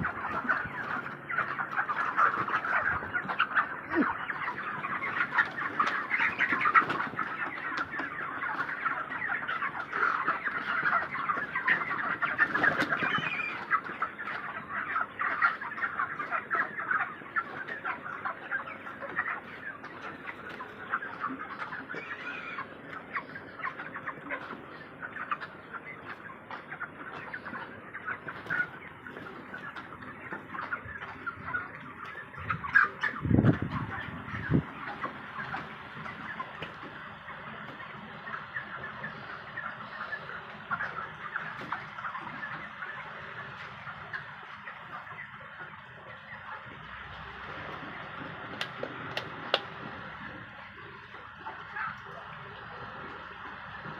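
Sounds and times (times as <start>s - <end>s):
chickens clucking and chirping: 0.0s - 53.9s.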